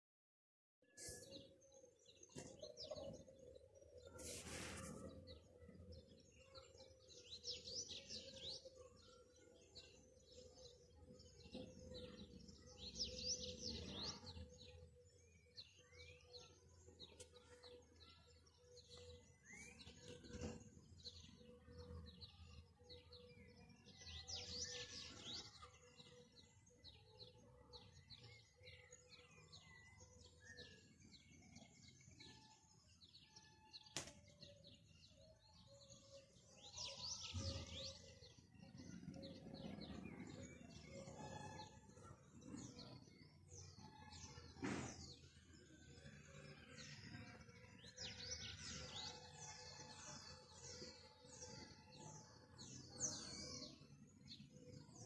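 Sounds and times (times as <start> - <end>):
bird warbling song: 0.8 - 55.0
birds chirping: 0.9 - 55.0.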